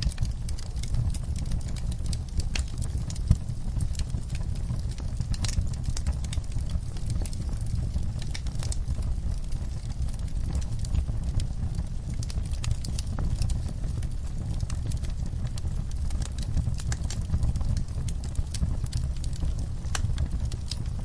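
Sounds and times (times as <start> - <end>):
low fire rumble: 0.0 - 21.0
wood logs crackling in fireplace: 0.0 - 21.0.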